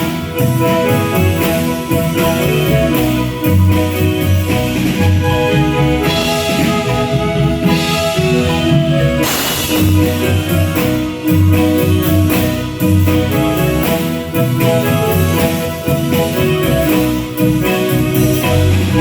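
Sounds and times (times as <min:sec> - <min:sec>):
bass: 0:00.0 - 0:19.0
drum kit: 0:00.0 - 0:19.0
marimba melody: 0:00.0 - 0:19.0.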